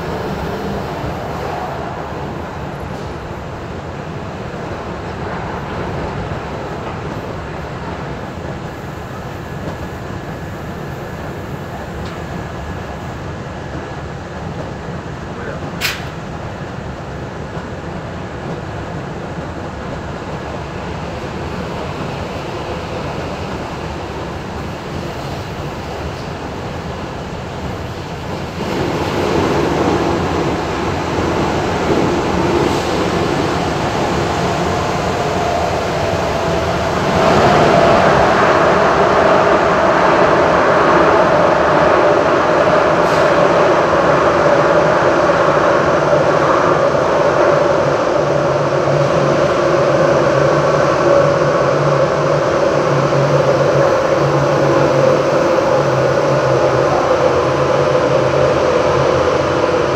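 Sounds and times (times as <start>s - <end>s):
train wheels rumbling on rail: 0.0s - 59.9s
train whine: 0.0s - 59.9s.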